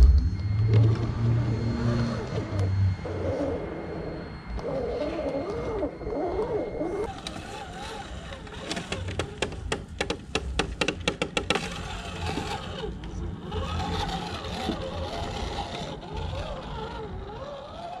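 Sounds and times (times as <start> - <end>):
rc car electric motor whining: 0.0 - 10.3, 11.1 - 18.0.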